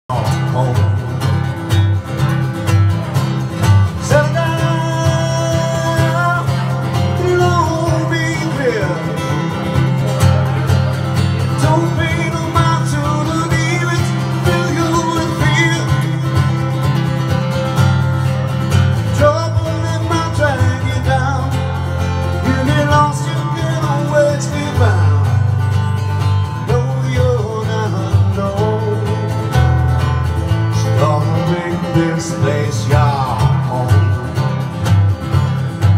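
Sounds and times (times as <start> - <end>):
man singing: 0.1 - 1.6, 3.2 - 17.0, 19.0 - 29.8, 30.6 - 34.6
strummed electric guitar: 0.1 - 35.9.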